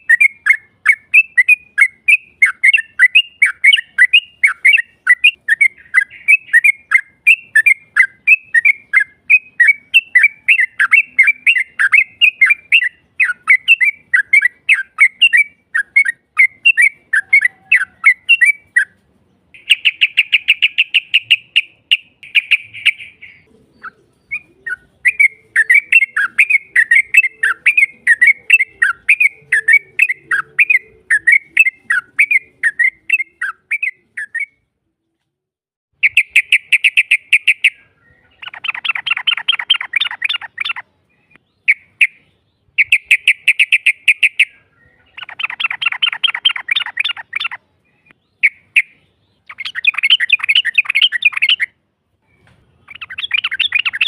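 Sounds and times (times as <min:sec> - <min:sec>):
bird fast trill: 0:00.0 - 0:19.0, 0:19.6 - 0:34.6, 0:36.0 - 0:51.8, 0:52.4 - 0:54.0
bird chirping song: 0:00.0 - 0:54.0.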